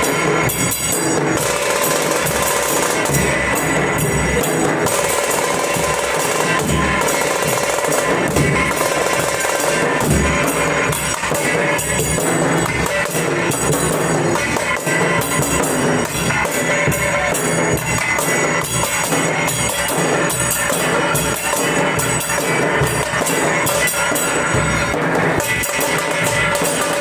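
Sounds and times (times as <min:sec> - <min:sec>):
dhol drums playing fast rhythm: 0:00.0 - 0:27.0.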